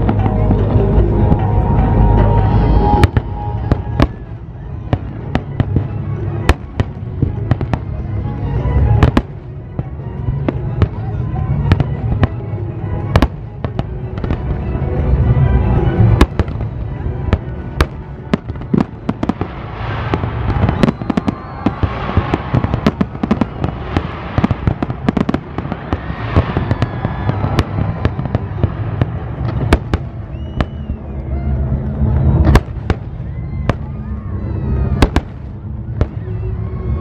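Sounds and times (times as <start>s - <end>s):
fireworks crackle: 0.0s - 37.0s
low rumble: 0.0s - 37.0s.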